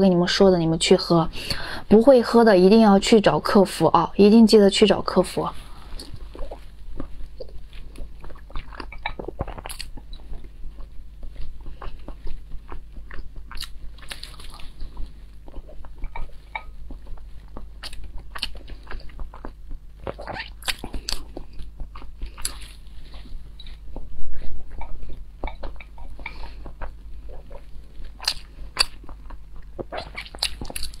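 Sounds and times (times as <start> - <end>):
person chewing with mouth smacks: 5.6 - 31.0.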